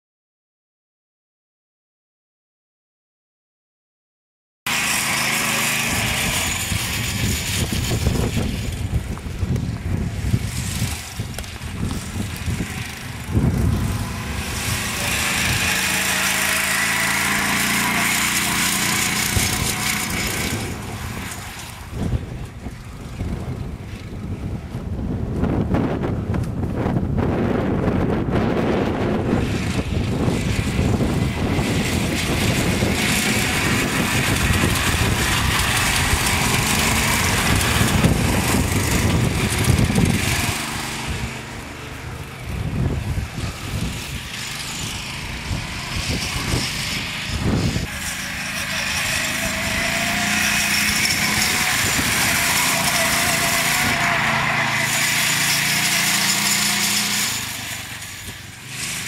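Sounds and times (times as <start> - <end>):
motorbike engine revving: 4.7 - 59.0.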